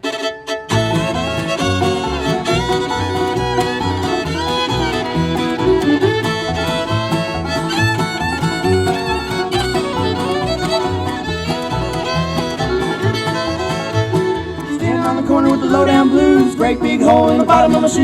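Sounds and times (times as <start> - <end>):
banjo: 0.0 - 18.0
fiddle melody: 0.0 - 18.0
guitar: 0.0 - 18.0
plucked stand-up bass: 0.6 - 18.0.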